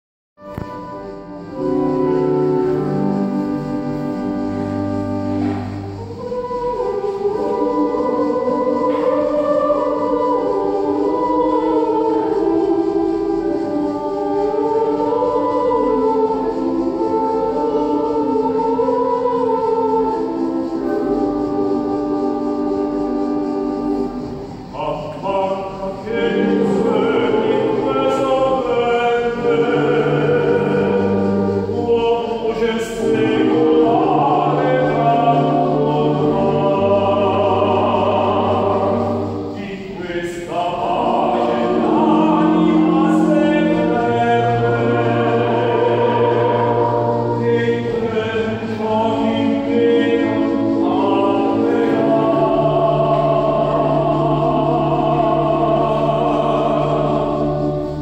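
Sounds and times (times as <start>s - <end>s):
choir singing sacred song: 0.4s - 58.0s.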